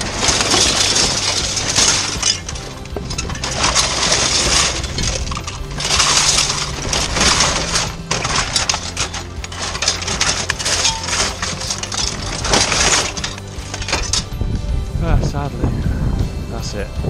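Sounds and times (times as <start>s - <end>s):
plastic packaging rustling in bin: 0.0s - 14.3s.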